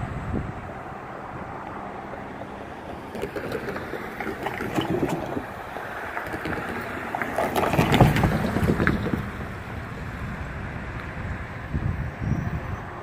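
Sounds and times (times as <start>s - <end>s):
tyres rumbling over rails: 0.0s - 13.0s.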